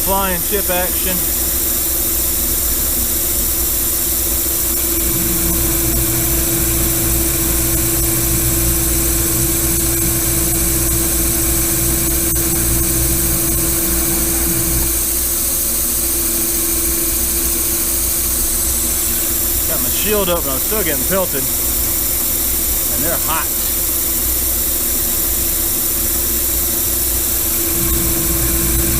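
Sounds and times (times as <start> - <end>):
metal lathe cutting: 0.0 - 28.9.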